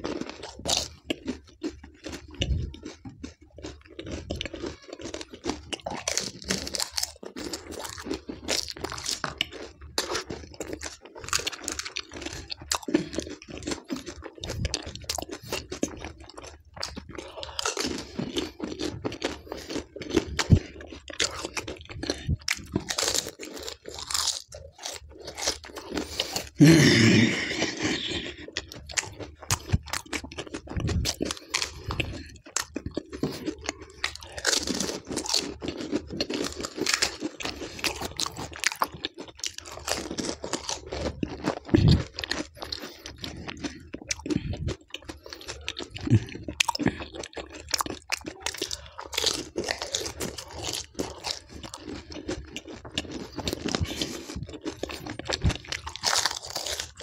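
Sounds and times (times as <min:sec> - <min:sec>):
crunching and wet chewing: 0:00.0 - 0:57.0.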